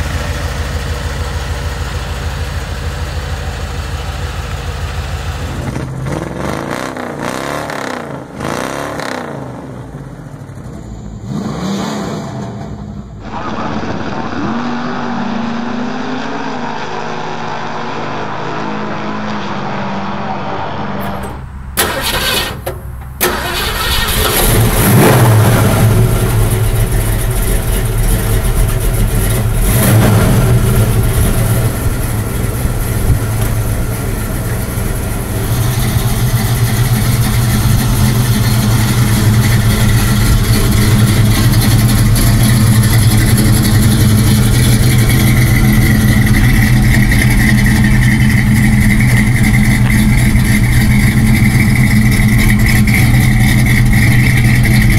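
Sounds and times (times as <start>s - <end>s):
car engine starting and idling: 0.0s - 54.9s.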